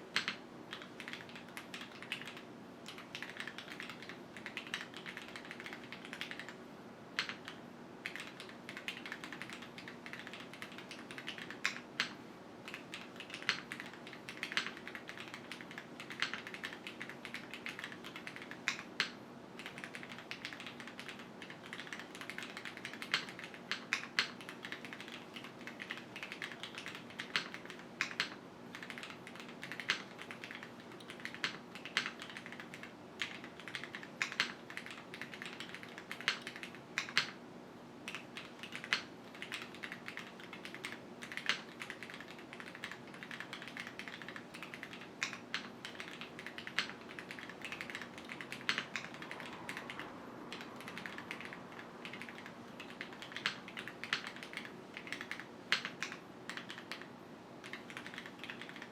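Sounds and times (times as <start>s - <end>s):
fast typing on mechanical keyboard: 0.1s - 6.6s, 7.2s - 37.4s, 38.0s - 58.9s.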